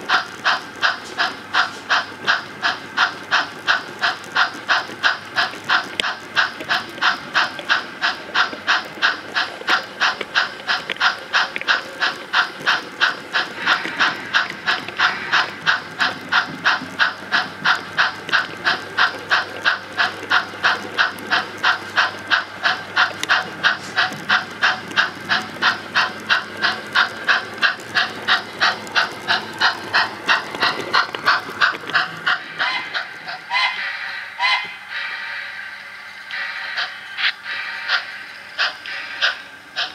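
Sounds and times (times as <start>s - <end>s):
model steam locomotive chuffing: 0.0s - 39.9s.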